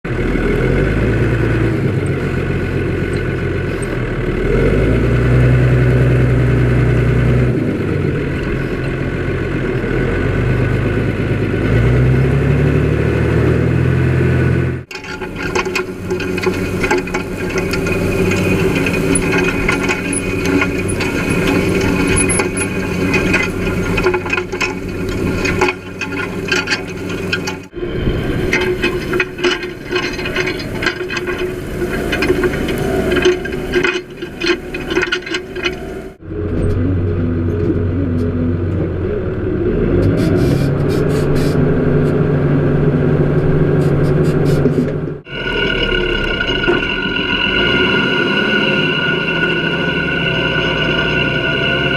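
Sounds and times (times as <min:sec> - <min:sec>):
tractor engine running: 0:00.0 - 0:51.9
machinery rattling and clanking: 0:00.1 - 0:12.1, 0:14.6 - 0:39.4, 0:40.0 - 0:51.9.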